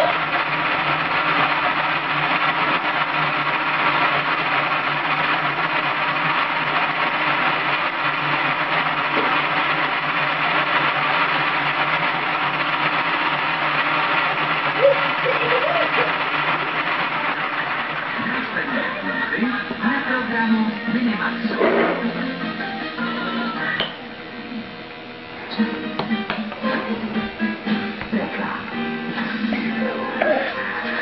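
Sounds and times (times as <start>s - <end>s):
small electric motor running: 0.0s - 31.0s.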